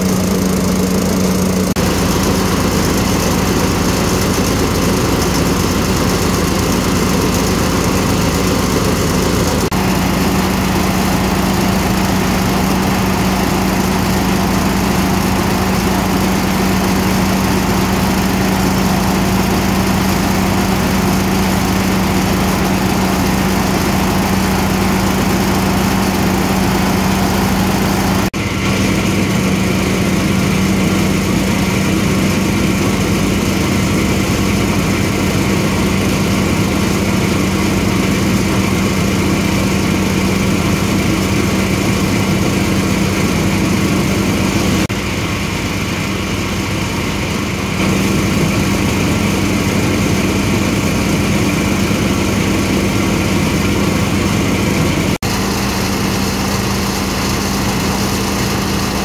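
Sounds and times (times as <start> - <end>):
threshing machine running: 0.0 - 59.0.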